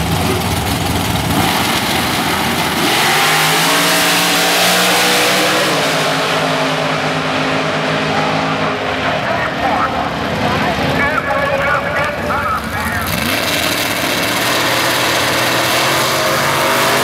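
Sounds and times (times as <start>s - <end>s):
drag race engines accelerating: 0.0s - 17.0s.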